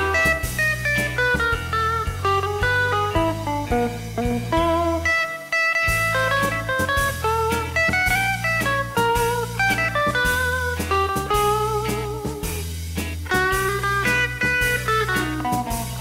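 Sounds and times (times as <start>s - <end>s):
bass and drums: 0.0s - 16.0s
blues guitar: 0.0s - 16.0s.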